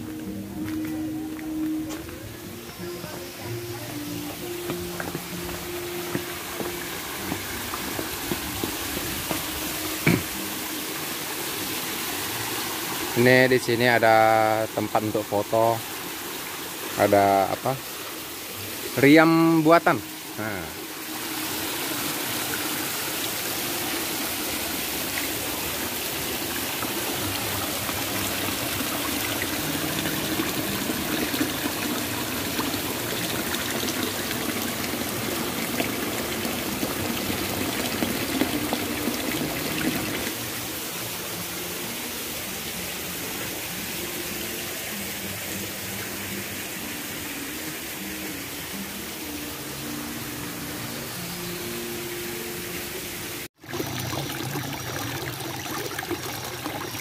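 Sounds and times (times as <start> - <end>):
waterfall splashing into pond: 2.6 - 50.3, 51.0 - 57.0.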